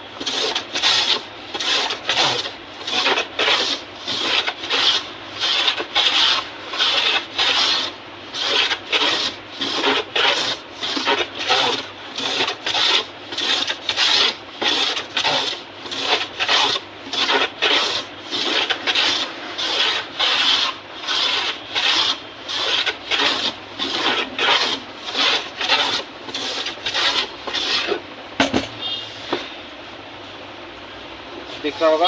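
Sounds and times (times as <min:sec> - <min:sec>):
hand tool shaving wood: 0:00.1 - 0:28.0, 0:31.5 - 0:32.0.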